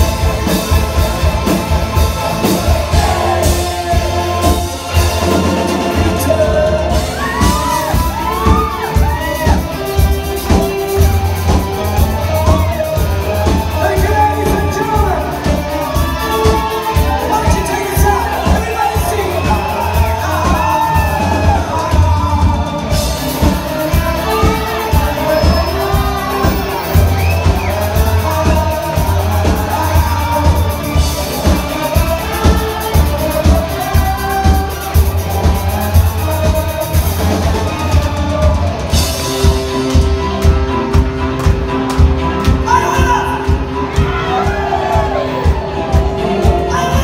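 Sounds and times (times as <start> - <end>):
drum beat: 0.0 - 47.0
heavy bass line: 0.0 - 47.0
live rock band playing: 0.0 - 47.0
swooping lead guitar: 0.0 - 47.0.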